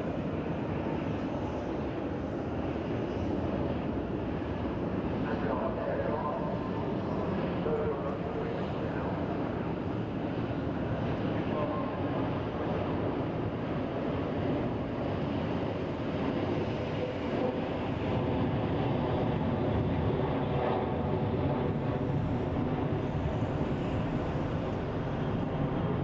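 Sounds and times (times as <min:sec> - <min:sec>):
jet engine rumble overhead: 0:00.0 - 0:26.0.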